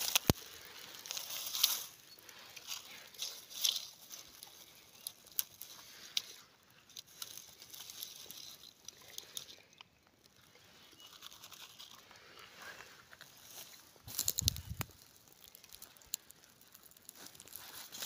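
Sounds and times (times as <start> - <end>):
dry leaves and twigs crackling: 0.0 - 18.0.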